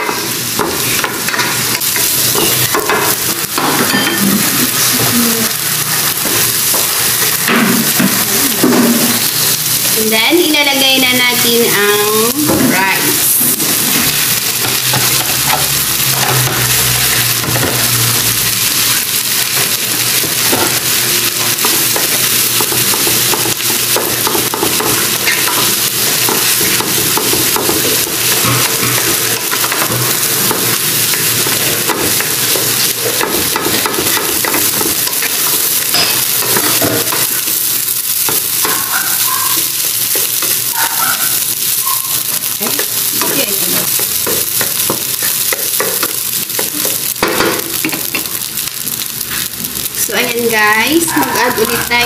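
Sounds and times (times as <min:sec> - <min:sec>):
rice sizzling in a frying pan: 0:00.0 - 0:52.0.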